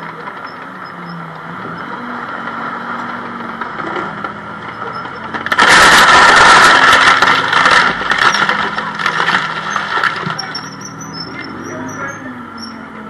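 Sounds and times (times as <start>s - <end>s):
armoured vehicle engine and tracks: 0.0s - 13.0s.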